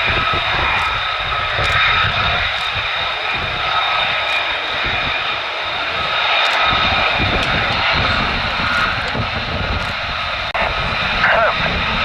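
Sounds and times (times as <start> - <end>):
jet engine whine and rumble: 0.0 - 12.0.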